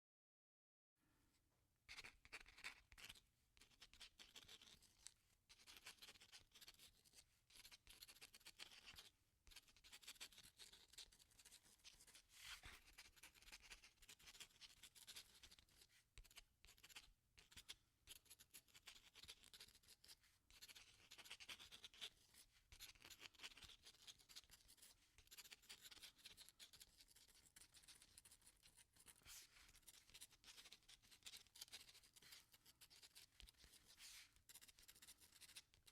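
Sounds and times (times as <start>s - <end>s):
pen scratching on paper: 1.9s - 35.9s.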